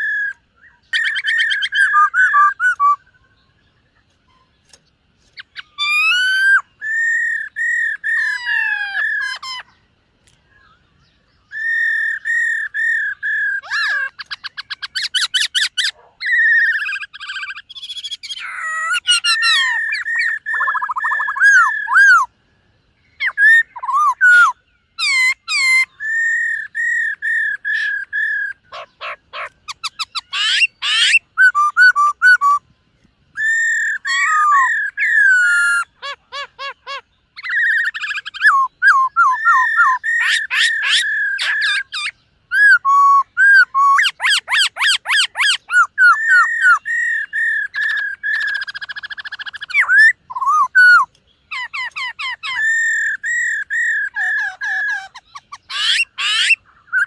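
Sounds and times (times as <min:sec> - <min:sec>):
bird singing whistled phrases: 0:00.0 - 0:03.6, 0:05.4 - 0:09.8, 0:10.5 - 0:22.3, 0:23.0 - 0:32.7, 0:33.4 - 0:57.0.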